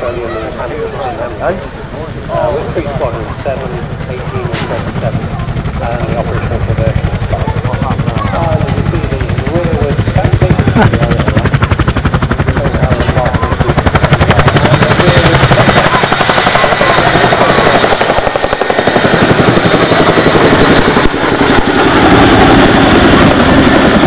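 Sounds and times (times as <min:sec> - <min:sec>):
helicopter rotors thudding: 0:01.6 - 0:24.0.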